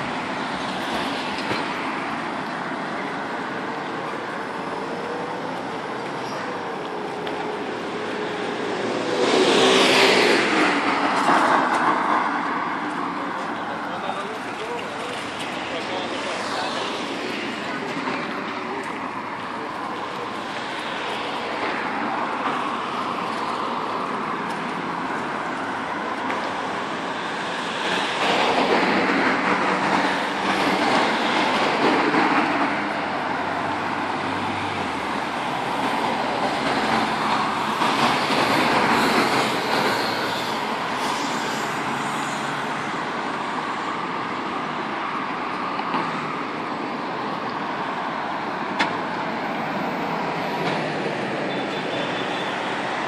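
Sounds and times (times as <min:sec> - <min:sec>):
vehicles passing: 0:00.0 - 0:53.0.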